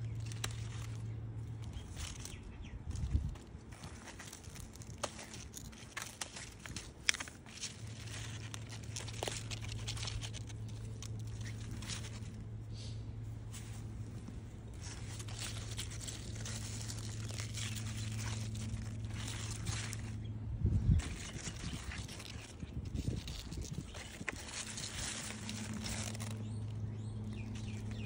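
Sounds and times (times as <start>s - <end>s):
leaves and dry grass rustling: 0.0s - 28.0s
steady low hum: 0.0s - 28.0s.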